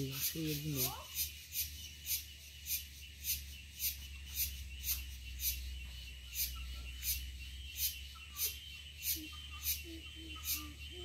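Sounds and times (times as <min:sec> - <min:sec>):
insect calling in pulses: 0:00.0 - 0:11.0.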